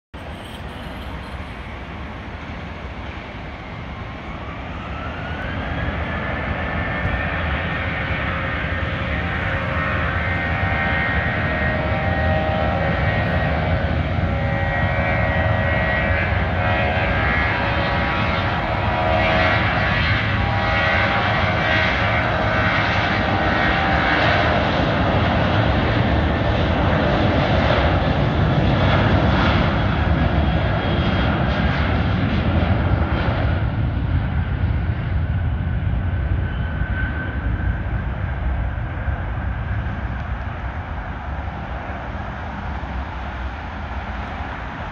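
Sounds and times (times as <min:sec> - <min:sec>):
engine whine: 0:00.1 - 0:44.9
jet engines roaring at takeoff: 0:00.2 - 0:44.9.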